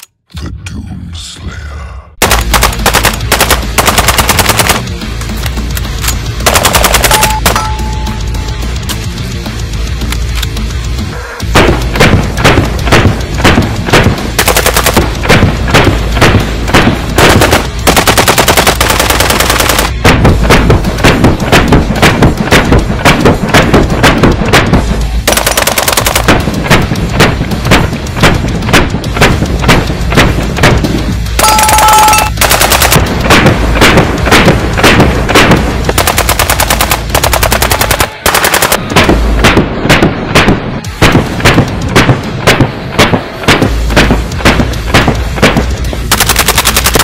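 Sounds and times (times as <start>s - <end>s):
shotgun firing: 2.2s - 5.0s, 6.4s - 8.1s, 11.5s - 47.0s.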